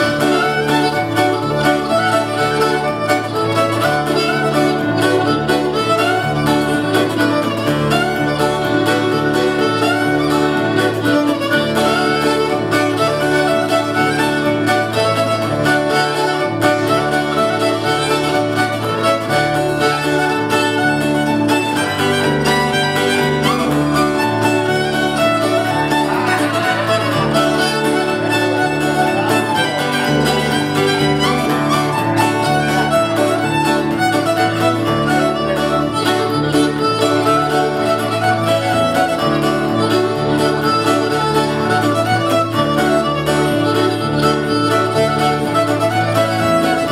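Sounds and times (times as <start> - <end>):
acoustic guitar strumming chords: 0.0 - 46.9
bass guitar walking bass line: 0.0 - 46.9
fiddle tune: 0.0 - 46.9.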